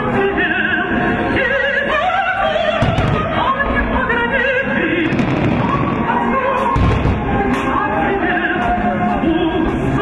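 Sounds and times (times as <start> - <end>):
operatic singing with music: 0.0 - 10.0.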